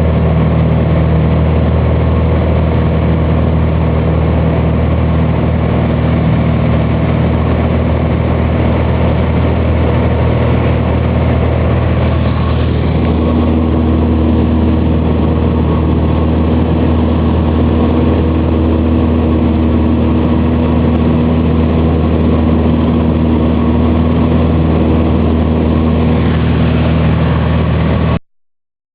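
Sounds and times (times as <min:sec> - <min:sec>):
propeller plane engine drone: 0:00.0 - 0:28.2.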